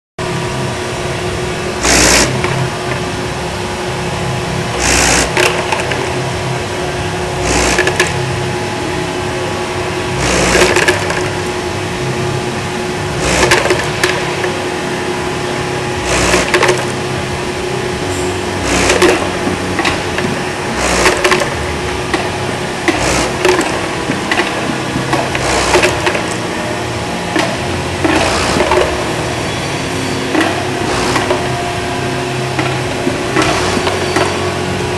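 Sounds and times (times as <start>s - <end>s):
motor hum: 0.2s - 34.9s.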